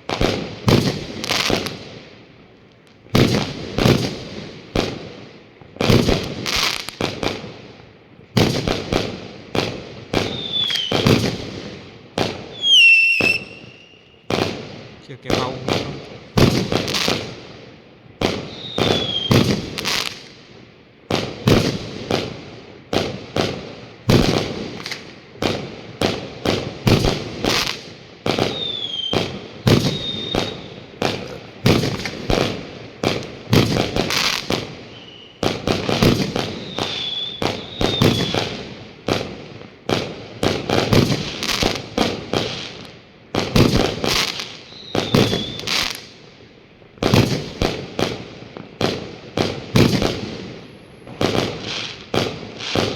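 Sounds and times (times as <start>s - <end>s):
fireworks banging: 0.0s - 1.9s, 3.0s - 5.1s, 5.7s - 7.5s, 8.3s - 17.4s, 18.2s - 20.4s, 21.1s - 46.1s, 47.0s - 52.9s.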